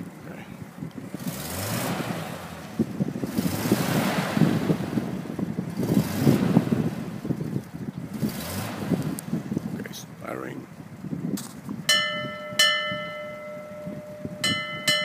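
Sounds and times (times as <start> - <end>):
wind gusting on microphone: 0.1 - 15.0.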